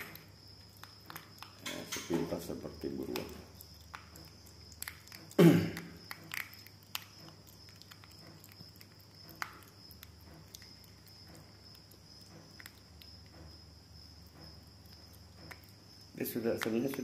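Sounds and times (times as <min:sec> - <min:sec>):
animal chewing clicks and knocks: 0:00.0 - 0:17.0
cricket trill: 0:00.0 - 0:17.0.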